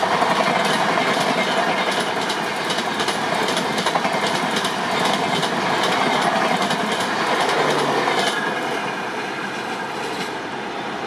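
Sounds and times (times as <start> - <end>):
train wheels clattering over rail joints: 0.0 - 9.0
rush of passing train: 0.0 - 11.0.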